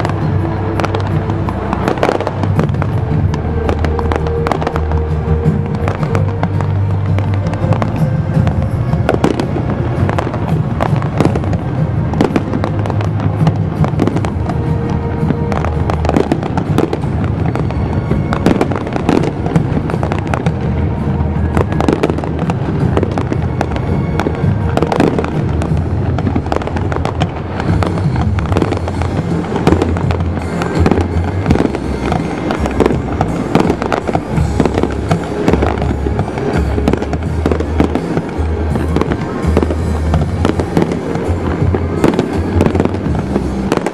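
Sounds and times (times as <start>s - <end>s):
fireworks bangs and crackling: 0.0s - 43.9s
steady low rumble: 0.0s - 43.9s.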